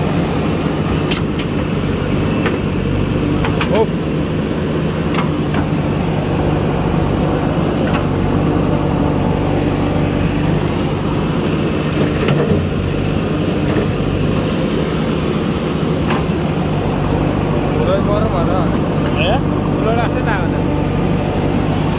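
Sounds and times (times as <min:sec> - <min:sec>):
diesel engine running under load: 0:00.0 - 0:21.9
faint engine knocks: 0:00.0 - 0:21.9.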